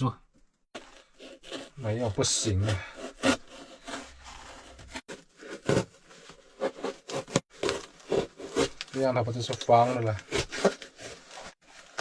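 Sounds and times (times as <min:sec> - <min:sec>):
cardboard rubbing and creasing: 0:00.7 - 0:12.0.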